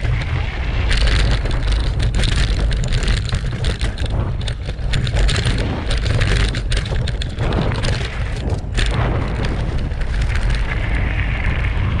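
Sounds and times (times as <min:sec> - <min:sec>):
bike knocking and rattling: 0:00.0 - 0:12.0
tyres on gravel: 0:00.0 - 0:12.0
wind rumble on microphone: 0:00.0 - 0:12.0.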